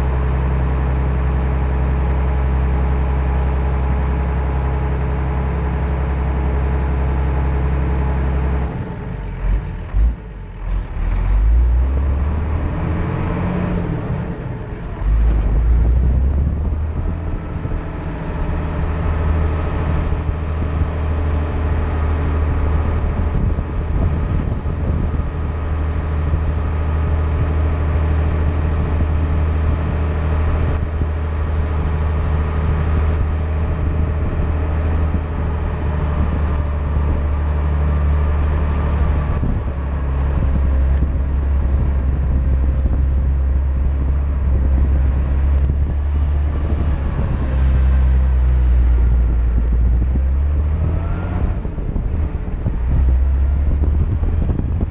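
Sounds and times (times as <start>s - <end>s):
car engine humming: 0.0s - 54.9s.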